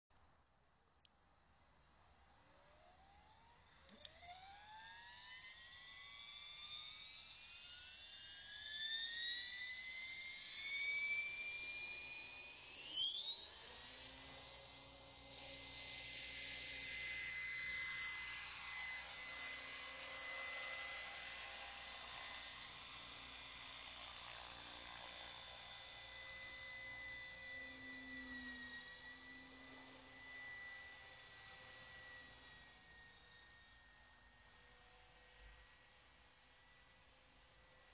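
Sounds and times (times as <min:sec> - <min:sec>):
rc helicopter whine: 0:01.1 - 0:37.9.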